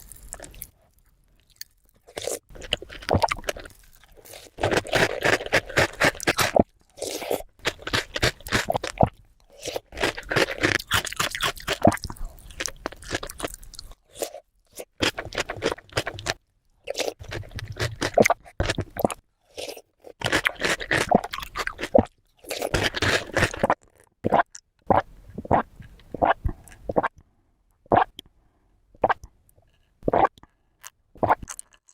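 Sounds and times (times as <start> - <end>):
crunching and chewing: 0.0 - 25.0, 29.8 - 31.9.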